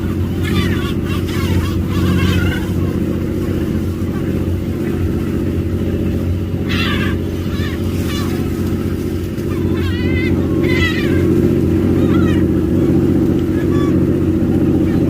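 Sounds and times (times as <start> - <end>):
boat engine drone: 0.0 - 15.0
gulls calling: 0.0 - 15.0.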